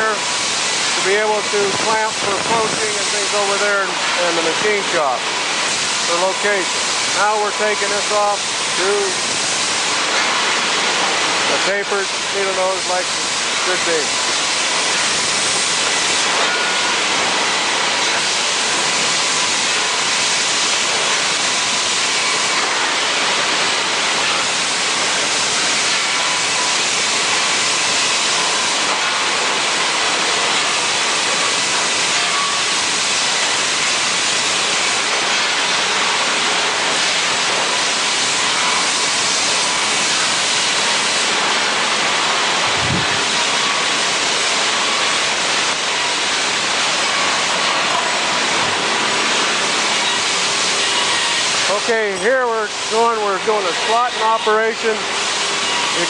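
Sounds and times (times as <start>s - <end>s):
loud hissing machinery: 0.0s - 56.0s.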